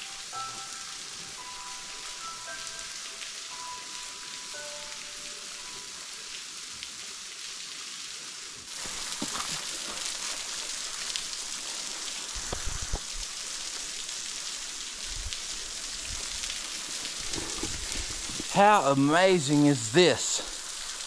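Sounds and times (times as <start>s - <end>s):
waterfall splashing: 1.8s - 21.0s.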